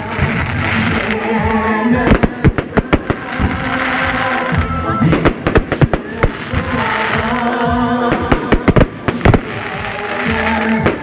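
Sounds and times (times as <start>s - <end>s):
fireworks bursting and crackling: 0.0s - 11.0s
music playing: 0.0s - 11.0s.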